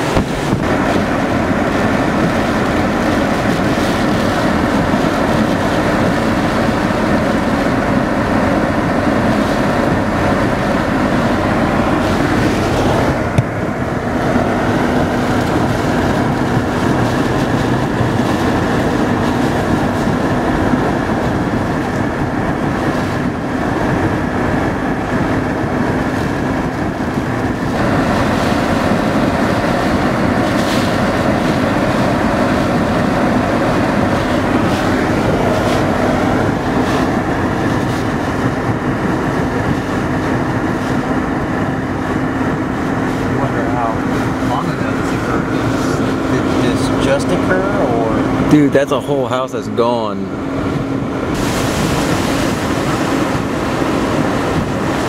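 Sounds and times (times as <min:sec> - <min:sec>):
low hum from car: 0:00.0 - 0:55.0
wind and rain buffeting a car: 0:00.0 - 0:55.0.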